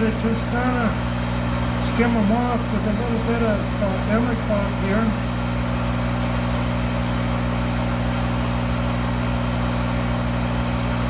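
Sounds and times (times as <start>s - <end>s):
lathe running with hum and hiss: 0.0s - 11.0s.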